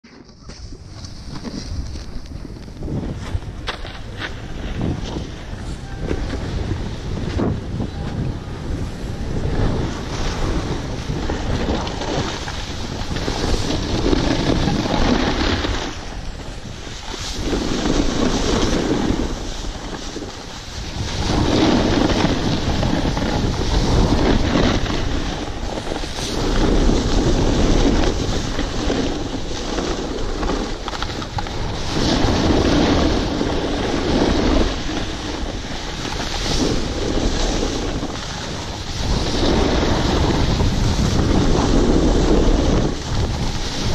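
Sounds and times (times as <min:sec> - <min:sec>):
ski edges scraping snow: 0:00.0 - 0:43.9
wind rushing over microphone: 0:00.0 - 0:43.9.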